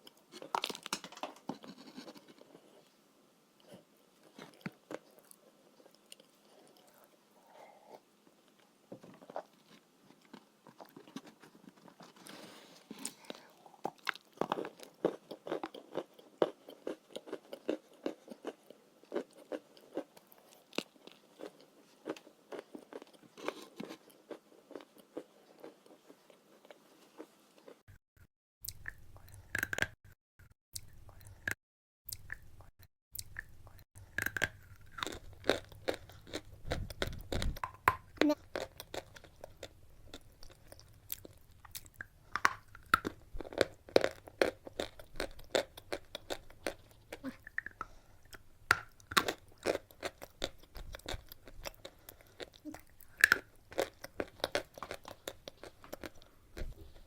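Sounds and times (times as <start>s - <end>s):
crunching and chewing chalk: 3.6s - 7.1s, 9.2s - 27.8s, 32.1s - 57.0s.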